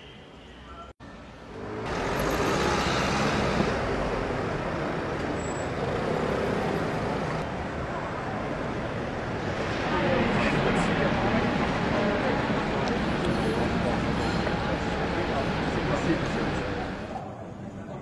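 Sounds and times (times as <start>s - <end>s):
street traffic hiss: 0.0s - 17.9s.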